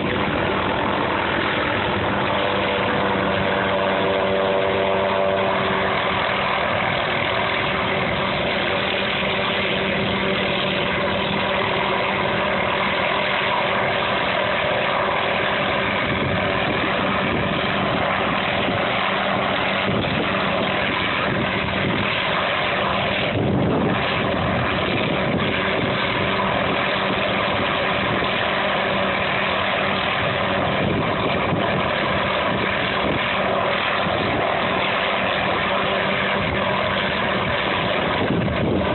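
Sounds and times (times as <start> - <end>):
large engine humming: 0.0 - 38.9.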